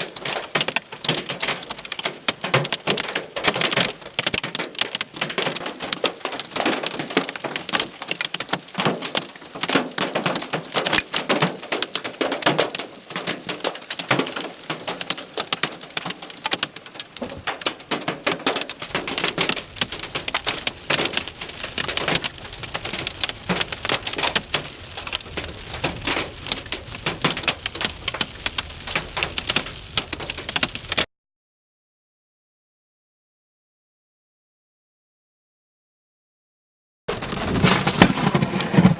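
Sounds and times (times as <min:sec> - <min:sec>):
hailstones clattering on hard surface: 0:00.0 - 0:31.1, 0:37.1 - 0:38.9.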